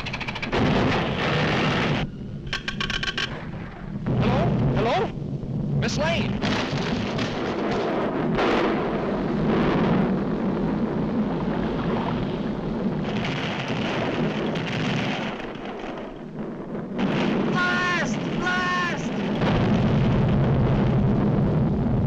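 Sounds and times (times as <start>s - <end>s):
cartoon volcano rumble: 0.0s - 2.1s, 3.3s - 22.0s.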